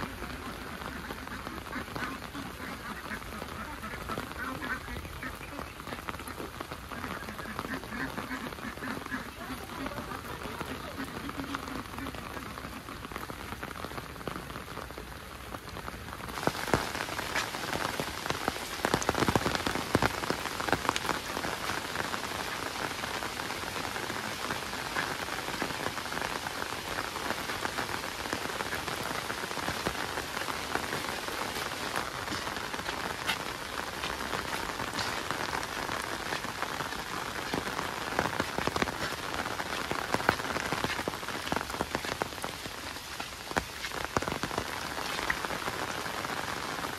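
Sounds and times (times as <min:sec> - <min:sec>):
heavy rain falling: 0:00.0 - 0:46.9
raindrops tapping nearby: 0:00.0 - 0:46.9.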